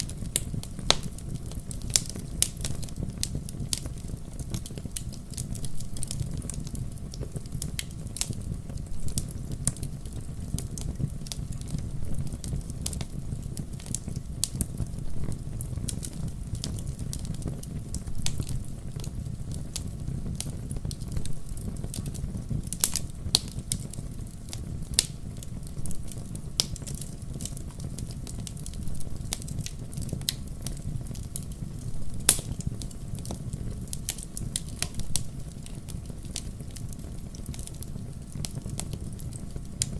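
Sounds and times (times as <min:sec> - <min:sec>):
campfire crackling and popping: 0:00.0 - 0:39.9
low rush of fire: 0:00.0 - 0:39.9.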